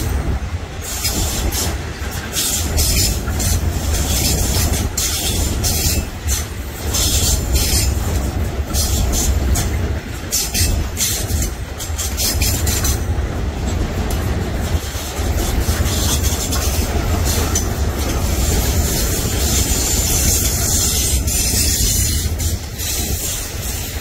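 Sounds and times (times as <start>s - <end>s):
train rumbling past: 0.0s - 24.0s
wheels clacking over rail joints: 0.0s - 24.0s.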